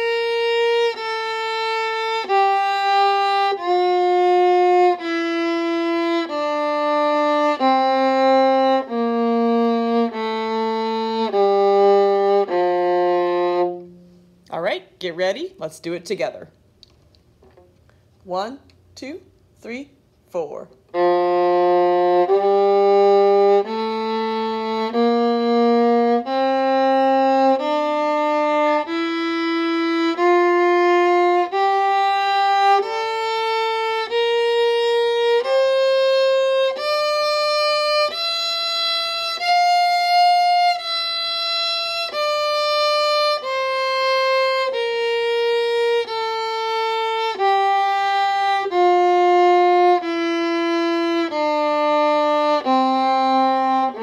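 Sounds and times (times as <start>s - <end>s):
viola playing a scale: 0.0s - 14.4s, 20.9s - 54.0s.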